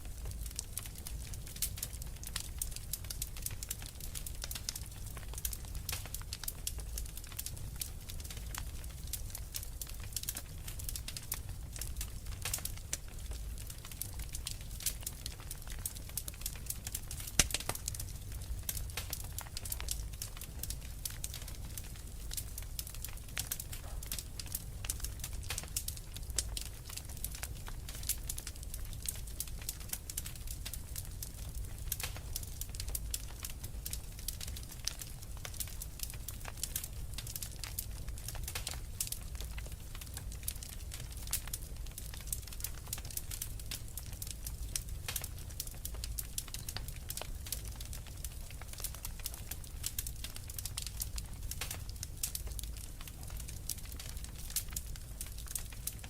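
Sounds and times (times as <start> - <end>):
low fire rumble: 0.0 - 56.0
wood fire crackling: 0.0 - 56.0.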